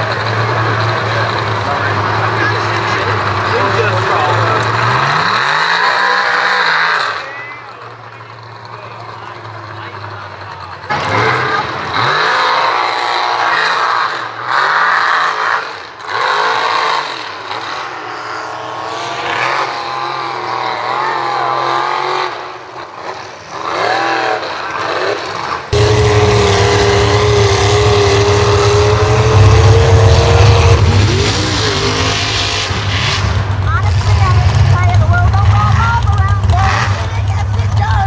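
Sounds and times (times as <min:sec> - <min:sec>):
truck engines revving: 0:00.0 - 0:38.0.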